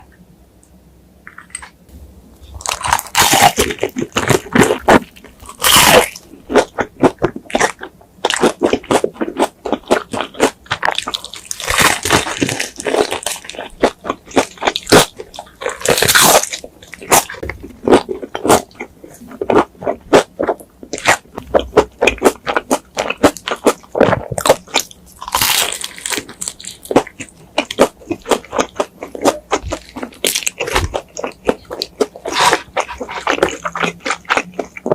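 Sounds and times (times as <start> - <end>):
crunching and chewing fried chicken: 2.5 - 34.9.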